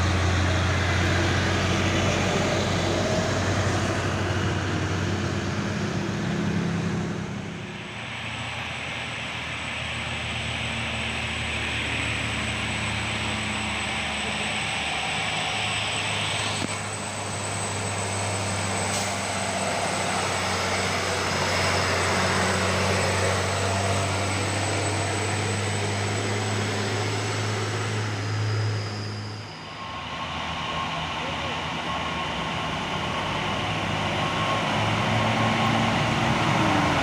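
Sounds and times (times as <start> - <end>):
truck diesel engine labouring: 0.0 - 37.0.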